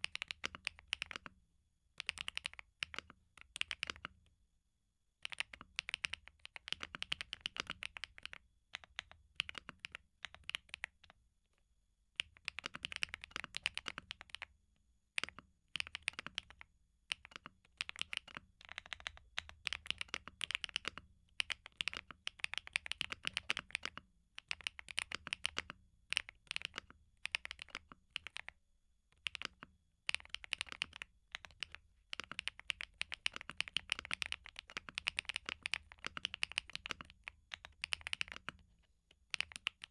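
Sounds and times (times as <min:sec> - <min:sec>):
mechanical keyboard typing: 0:00.0 - 0:01.4, 0:02.0 - 0:04.2, 0:05.2 - 0:11.1, 0:12.2 - 0:14.5, 0:15.2 - 0:28.6, 0:29.2 - 0:39.9.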